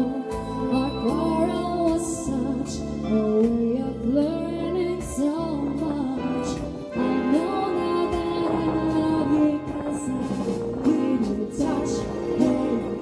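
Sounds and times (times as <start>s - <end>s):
slow soul ballad: 0.0s - 13.0s.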